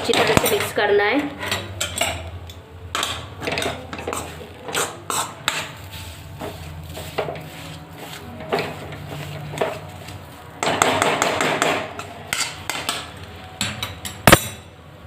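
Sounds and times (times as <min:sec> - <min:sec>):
spoon stirring and scraping pan: 0:00.0 - 0:14.3.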